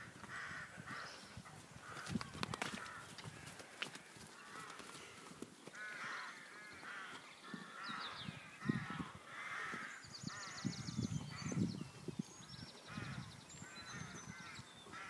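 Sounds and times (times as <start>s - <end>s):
crows cawing: 0.0s - 10.6s, 12.9s - 15.0s
bird chatter: 0.3s - 15.0s.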